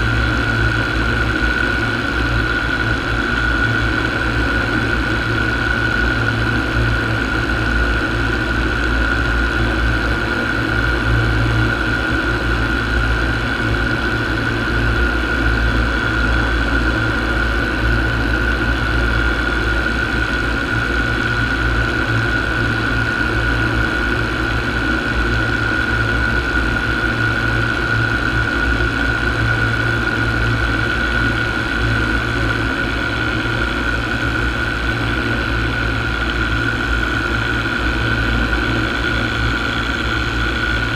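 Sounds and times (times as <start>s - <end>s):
paramotor engine whine: 0.0s - 40.9s.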